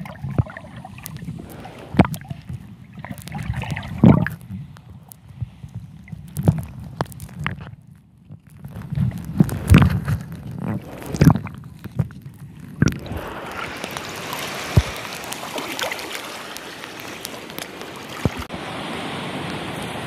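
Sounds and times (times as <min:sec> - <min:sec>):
rush of moving water: 0:00.0 - 0:07.7, 0:08.6 - 0:20.0
muffled underwater sloshing: 0:00.0 - 0:18.5.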